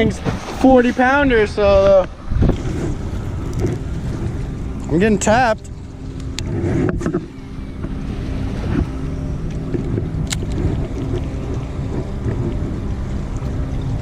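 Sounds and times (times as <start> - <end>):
boat engine rumble: 0.0 - 14.0
faint steady hum: 0.0 - 14.0
wind buffeting microphone: 0.0 - 14.0.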